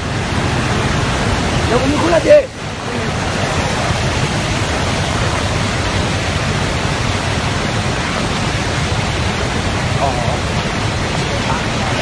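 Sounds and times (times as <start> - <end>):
fast-flowing floodwater rushing: 0.0 - 12.0.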